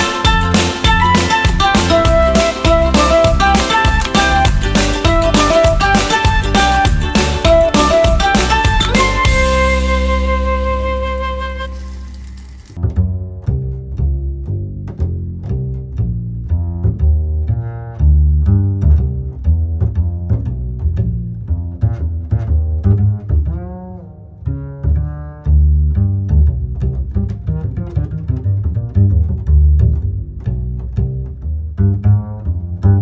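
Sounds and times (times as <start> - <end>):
instrumental background music: 0.0 - 33.0.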